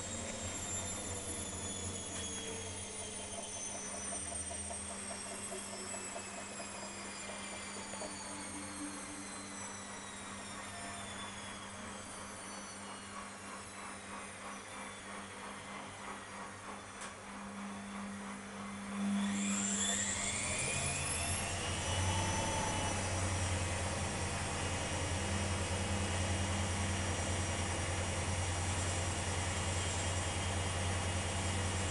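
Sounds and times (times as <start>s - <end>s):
washing machine motor whine: 0.0s - 31.9s.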